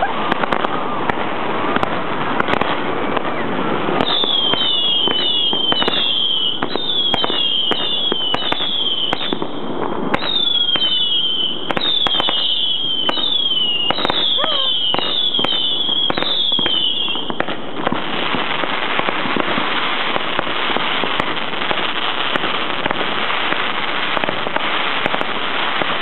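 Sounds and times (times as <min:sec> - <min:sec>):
firework fountain hissing and crackling: 0:00.0 - 0:26.0
whistling fireworks: 0:00.0 - 0:26.0.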